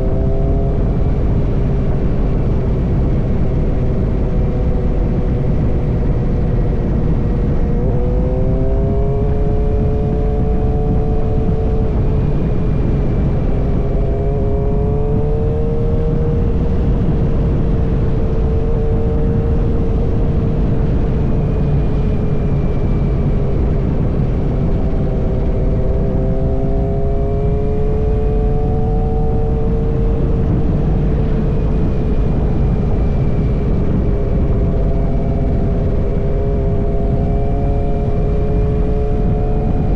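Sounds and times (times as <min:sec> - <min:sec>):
continuous rushing noise: 0:00.0 - 0:39.9
motorcycle engine running: 0:00.0 - 0:39.9.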